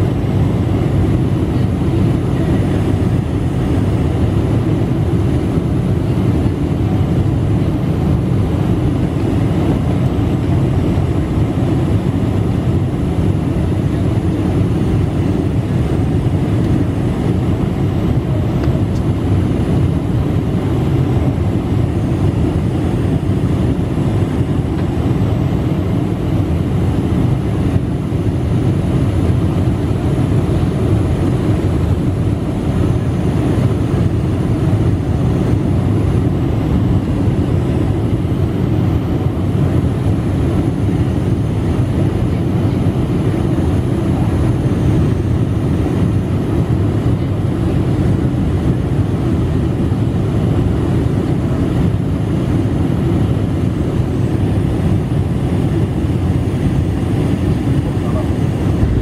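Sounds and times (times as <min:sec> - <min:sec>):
roar of engines and airflow: 0:00.0 - 0:59.0.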